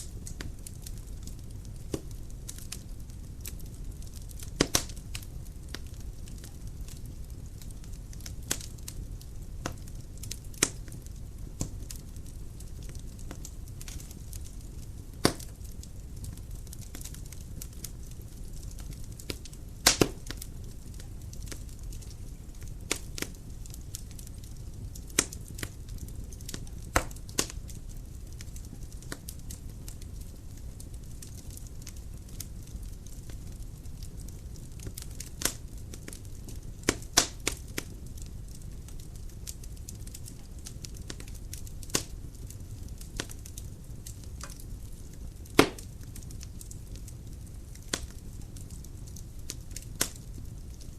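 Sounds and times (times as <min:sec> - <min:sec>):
fire rumbling: 0:00.0 - 0:50.9
logs crackling and popping: 0:00.0 - 0:50.9.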